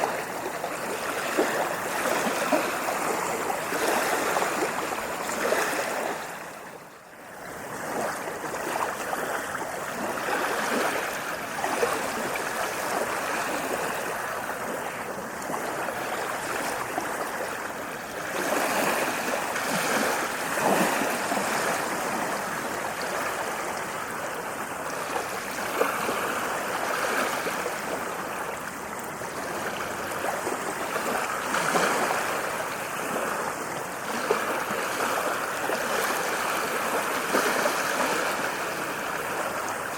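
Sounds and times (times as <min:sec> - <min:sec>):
ocean waves on sandy beach: 0:00.0 - 0:39.9.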